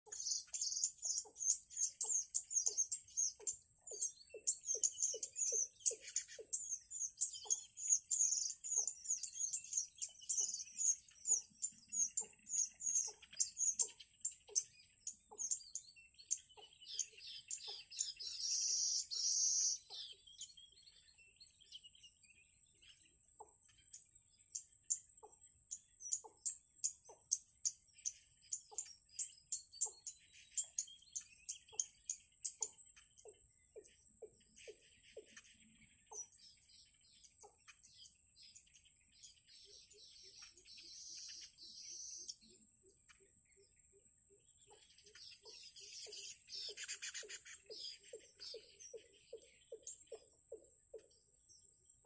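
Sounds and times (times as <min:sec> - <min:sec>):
rapid high-pitched bird chirping: 0:00.1 - 0:20.5, 0:24.6 - 0:36.6, 0:39.3 - 0:42.4, 0:44.6 - 0:51.1.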